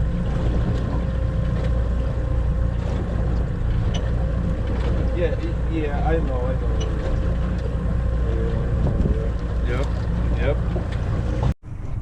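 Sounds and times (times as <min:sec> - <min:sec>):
faint boat motor hum: 0:00.0 - 0:12.0
wind rumbling on microphone: 0:00.0 - 0:12.0.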